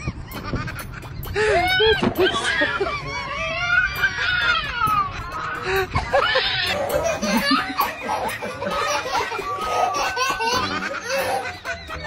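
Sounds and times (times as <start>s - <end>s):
baby laughing: 0.0s - 12.0s
people laughing: 0.3s - 12.0s.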